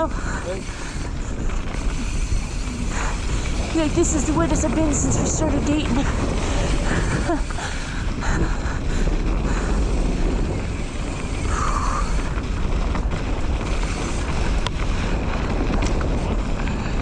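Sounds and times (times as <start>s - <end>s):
bike rattling: 0.0s - 17.0s
bike tyres rolling on dirt: 0.0s - 17.0s
wind on microphone: 0.0s - 17.0s.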